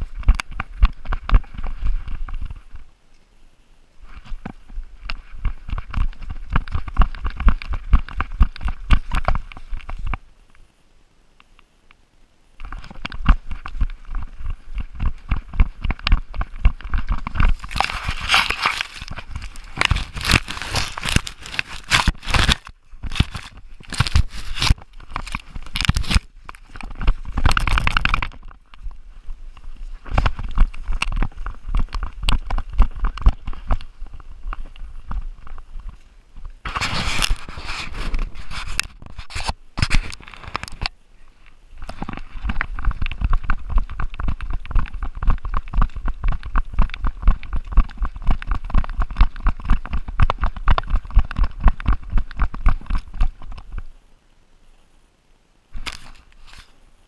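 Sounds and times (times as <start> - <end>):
leaves crackling against camera: 0.0 - 55.0, 55.6 - 57.0.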